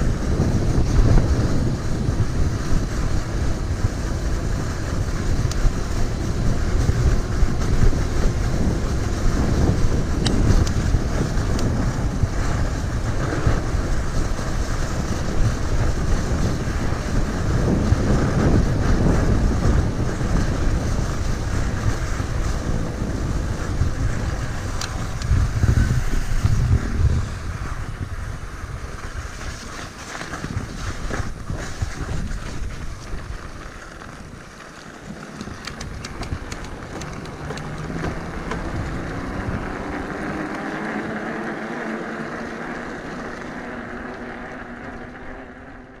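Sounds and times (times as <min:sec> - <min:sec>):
rushing noise of riding: 0:00.0 - 0:46.0
wind buffeting microphone: 0:00.0 - 0:46.0.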